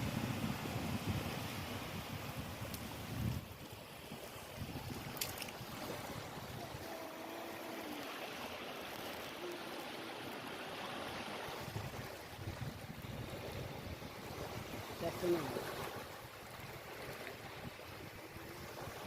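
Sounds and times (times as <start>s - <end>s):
sea waves washing: 0.0s - 19.0s.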